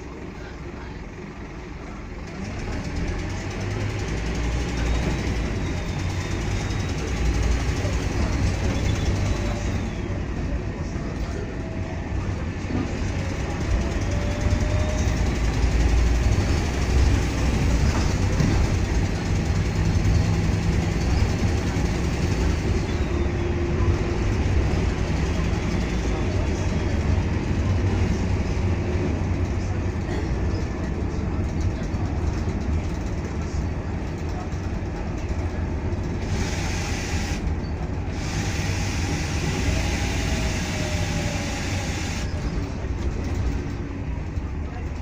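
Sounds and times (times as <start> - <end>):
bus diesel engine drone: 0.0 - 45.0.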